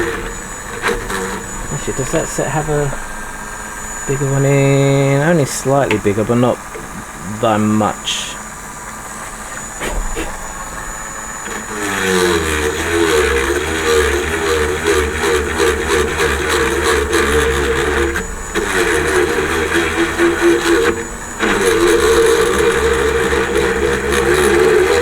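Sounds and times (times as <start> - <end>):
small electric drill boring plastic: 0.0 - 25.0.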